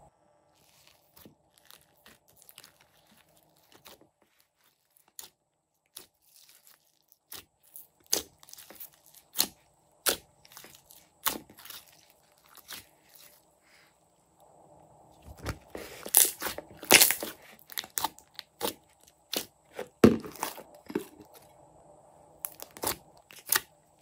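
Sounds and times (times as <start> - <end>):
hands squishing slime: 0.6 - 13.8, 15.4 - 21.4, 22.4 - 23.7.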